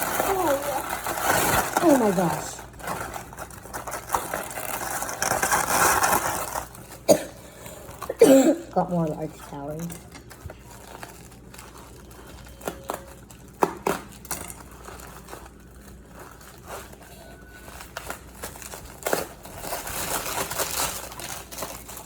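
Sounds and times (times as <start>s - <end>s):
wrapping material crinkling: 0.0s - 7.1s, 7.8s - 22.0s.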